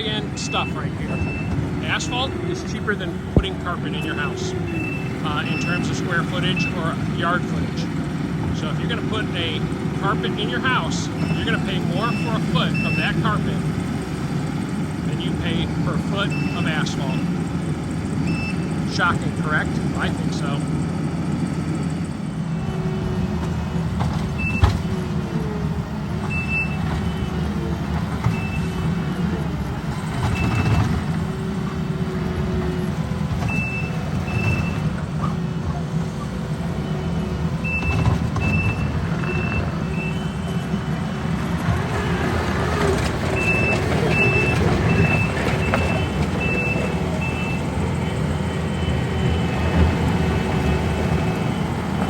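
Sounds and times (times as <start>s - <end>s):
reversing alarm beeping: 0.0s - 13.8s, 15.0s - 20.8s, 21.7s - 35.3s, 36.2s - 52.0s
diesel engine running: 0.0s - 52.0s.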